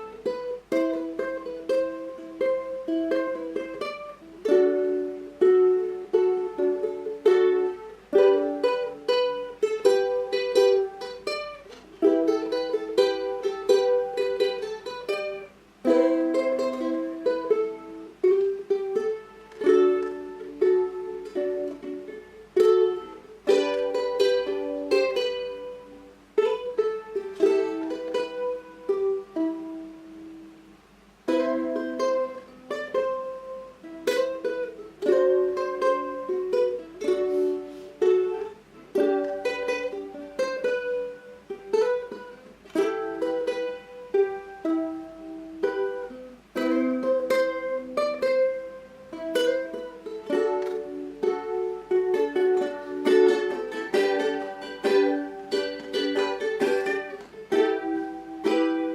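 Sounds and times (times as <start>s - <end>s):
solo ukulele melody: 0.0s - 58.9s.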